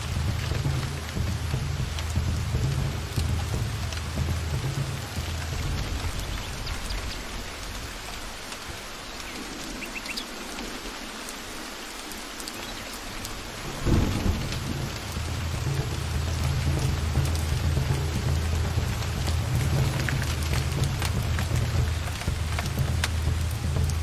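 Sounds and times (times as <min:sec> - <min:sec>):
thunder clap: 0:00.0 - 0:09.3, 0:13.2 - 0:24.0
low thunder rumbling: 0:00.0 - 0:10.9, 0:13.0 - 0:24.0
steady rain falling: 0:00.0 - 0:24.0.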